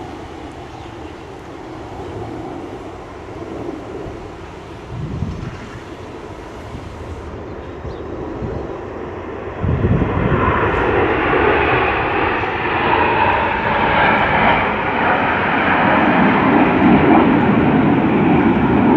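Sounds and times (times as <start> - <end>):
aircraft engine flying over: 0.0 - 18.9.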